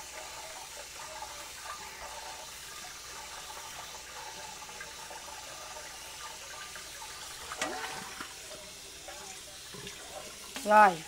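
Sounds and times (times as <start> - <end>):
tap water running into a sink: 0.0 - 11.0
wet splashes of rinsing vegetables: 0.0 - 11.0.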